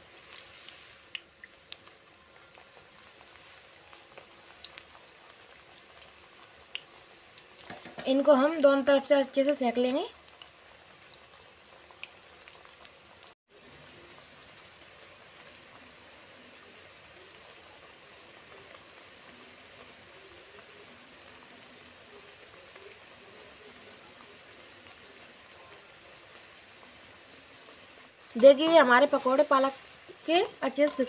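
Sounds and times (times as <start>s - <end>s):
frying in hot oil: 0.0s - 31.0s.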